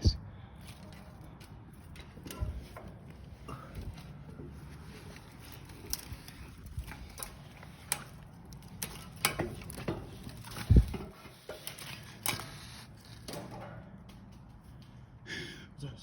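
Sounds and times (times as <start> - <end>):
climbing knocks and scrapes: 0.7 - 15.0.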